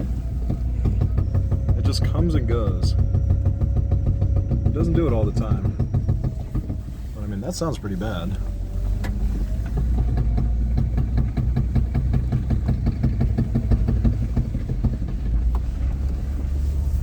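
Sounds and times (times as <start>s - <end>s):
low driving rumble: 0.0s - 17.0s
rapid drivetrain clicking: 0.0s - 17.0s.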